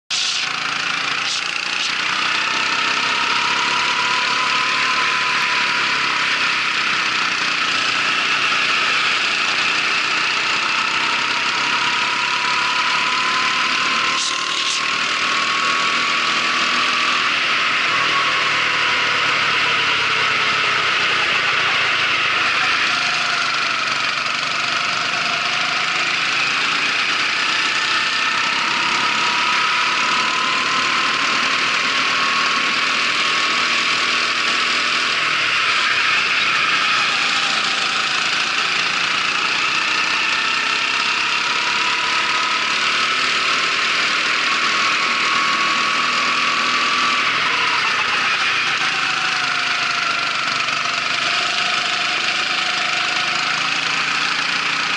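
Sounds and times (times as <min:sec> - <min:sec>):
kart engine running: 0:00.1 - 0:54.9.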